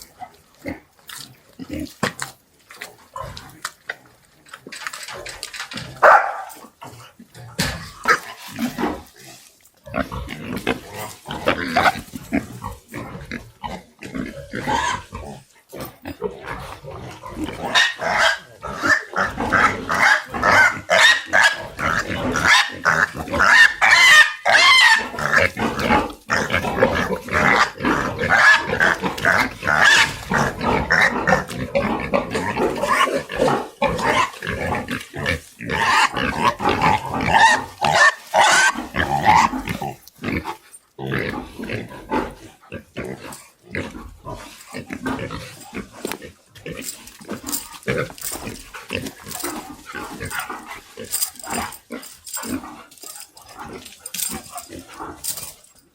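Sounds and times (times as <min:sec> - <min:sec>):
pigs grunting: 0:00.0 - 0:55.9
pigs squealing: 0:09.9 - 0:55.5.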